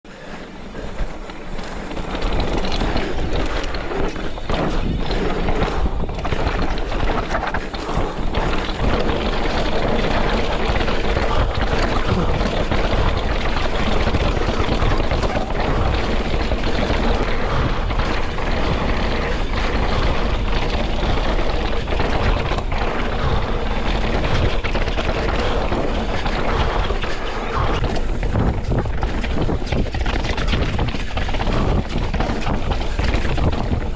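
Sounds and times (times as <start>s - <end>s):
knobby tyres rolling on dirt: 0.1s - 33.9s
wind buffeting microphone: 0.1s - 33.9s
bike knocks and rattles: 1.2s - 33.9s.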